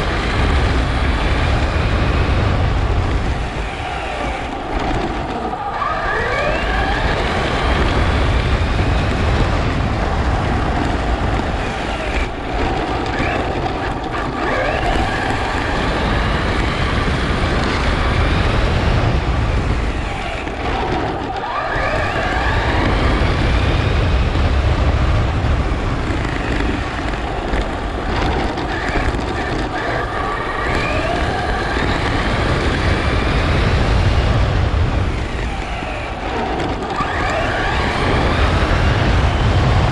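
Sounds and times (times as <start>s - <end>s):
tyre and wind rumble: 0.0s - 39.9s.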